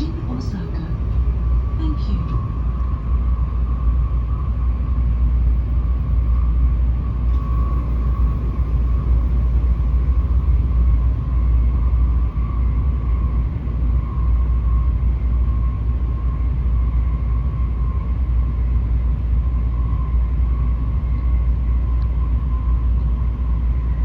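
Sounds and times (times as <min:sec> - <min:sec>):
deep train rumble: 0:00.0 - 0:24.0
faint constant whine: 0:00.0 - 0:24.0.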